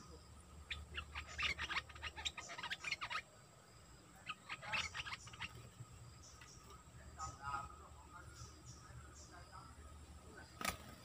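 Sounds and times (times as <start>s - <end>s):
bulbuls chirping: 0.0s - 11.0s.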